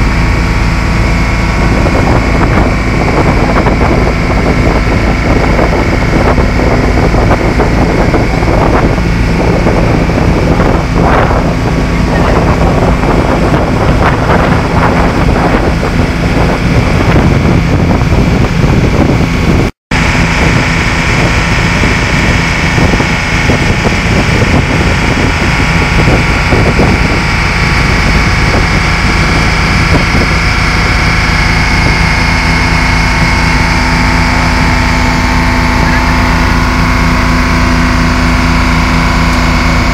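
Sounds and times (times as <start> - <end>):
boat engine running: 0.0 - 39.9
wind buffeting microphone: 0.0 - 39.9.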